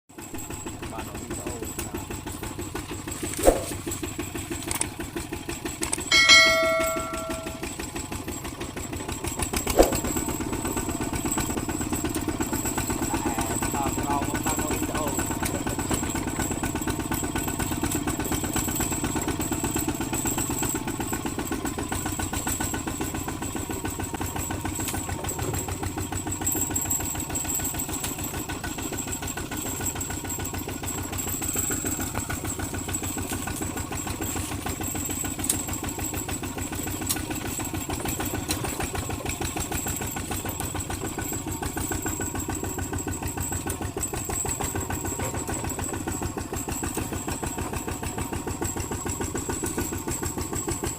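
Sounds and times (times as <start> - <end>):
diesel engine running: 0.2 - 50.9.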